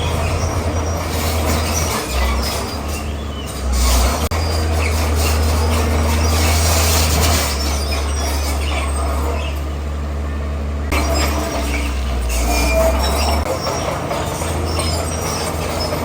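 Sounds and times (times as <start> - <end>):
bulldozer diesel engine droning: 0.0 - 16.0
bulldozer grinding rock: 0.0 - 16.0.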